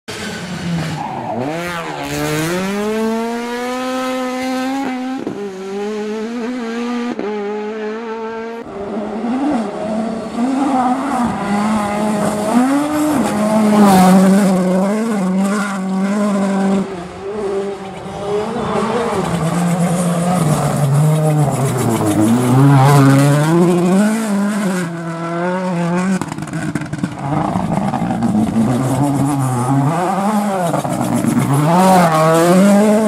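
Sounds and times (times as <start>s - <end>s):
rally car engine at full throttle: 0.1s - 33.0s.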